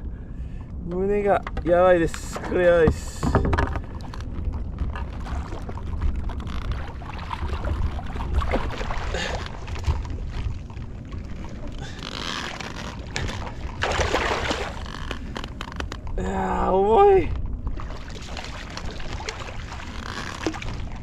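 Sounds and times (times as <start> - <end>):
water sloshing against a board: 0.0 - 21.0
wind rumbling on microphone: 0.0 - 21.0
fish thrashing and splashing: 2.4 - 16.2, 17.6 - 21.0.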